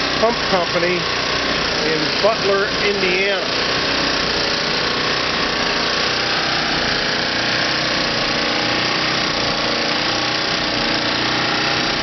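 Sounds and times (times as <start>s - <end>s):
portable generator running: 0.0s - 12.0s
pump jack motor and flywheel: 0.0s - 12.0s.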